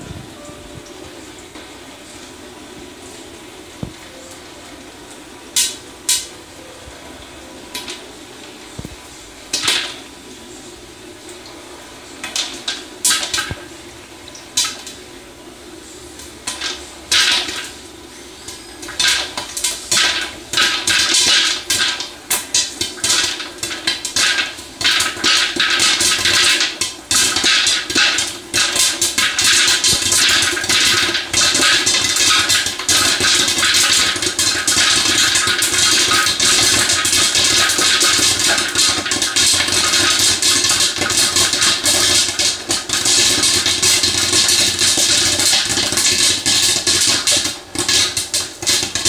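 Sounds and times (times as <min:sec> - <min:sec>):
popcorn popping: 0:05.5 - 0:06.4, 0:07.6 - 0:49.0.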